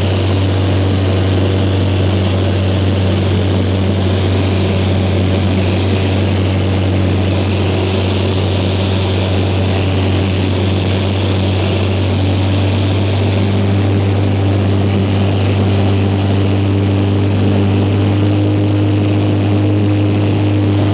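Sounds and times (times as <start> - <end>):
light aircraft engine drone: 0.0 - 20.9.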